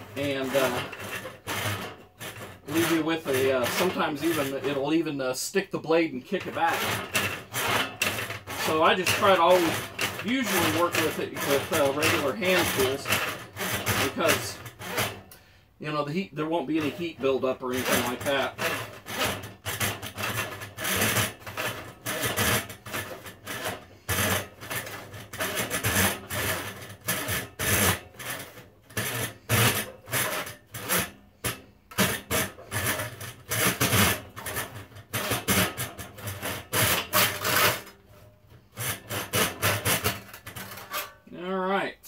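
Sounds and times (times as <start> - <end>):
hand saw cutting plastic: 0.0 - 41.3.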